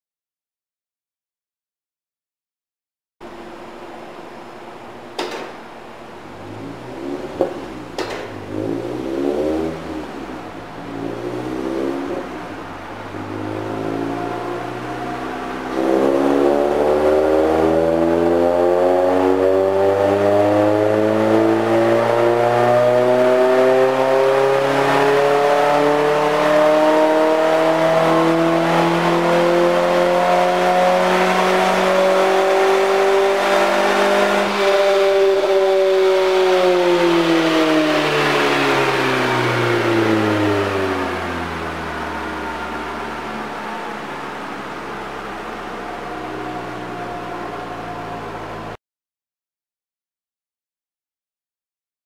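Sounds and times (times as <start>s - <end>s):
car exhaust revving under load: 3.2s - 48.8s.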